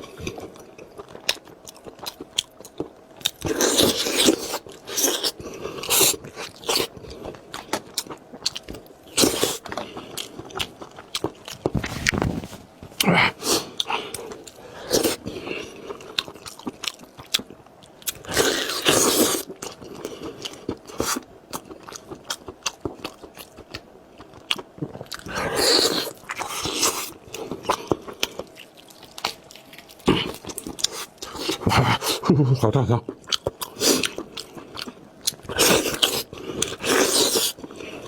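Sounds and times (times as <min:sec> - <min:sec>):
person chewing food: 0:00.0 - 0:38.0.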